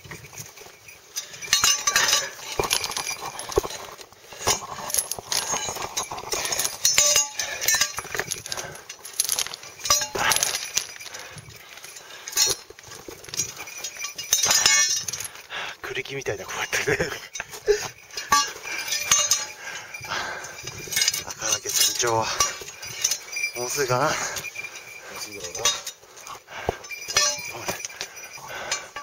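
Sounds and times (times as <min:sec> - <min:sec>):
hard breathing: 0:00.5 - 0:15.9, 0:16.5 - 0:29.0.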